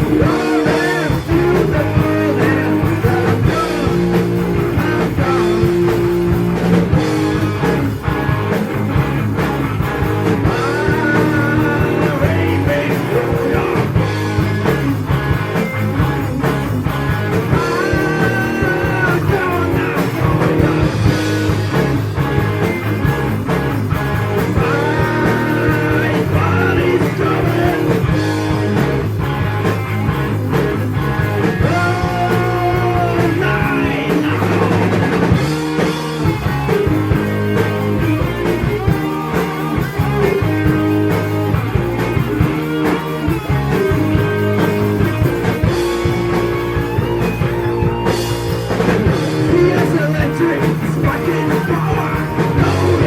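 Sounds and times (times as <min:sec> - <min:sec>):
heavy metal band playing: 0:00.0 - 0:53.0.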